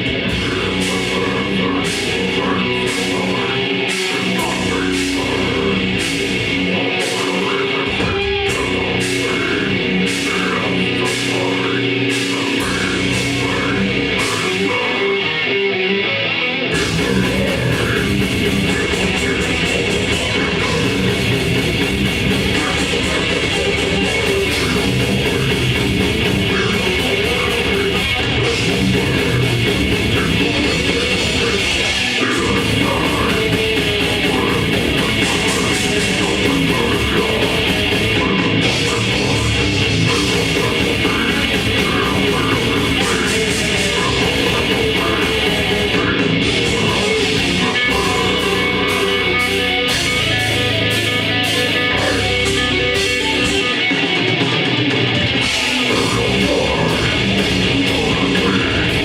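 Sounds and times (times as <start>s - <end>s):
distorted electric guitars: 0.0s - 59.0s
drums: 0.0s - 59.0s.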